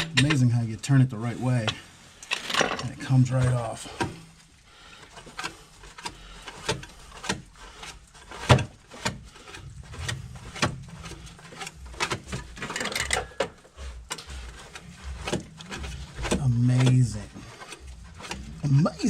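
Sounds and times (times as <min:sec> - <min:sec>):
tools and parts clinking: 0:00.0 - 0:00.6, 0:01.6 - 0:04.4, 0:05.0 - 0:18.7.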